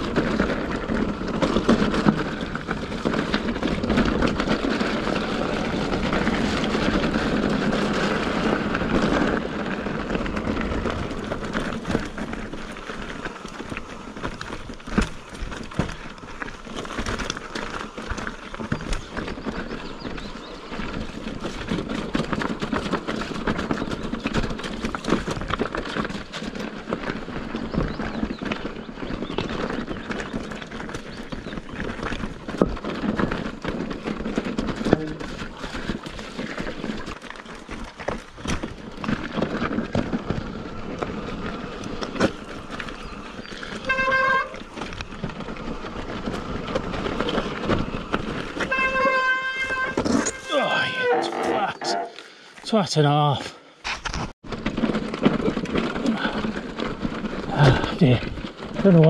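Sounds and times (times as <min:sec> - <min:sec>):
bike rattles and knocks: 0:00.0 - 0:59.0
tyre and wind noise: 0:00.0 - 0:59.0.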